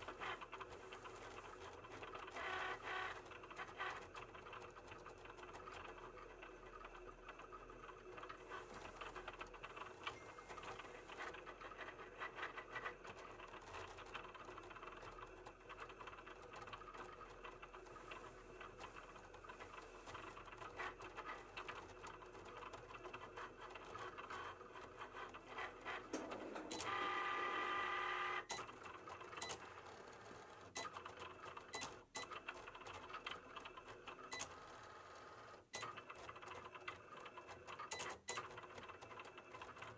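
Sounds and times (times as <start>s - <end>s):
cutting machine motors whirring: 0.0s - 39.9s.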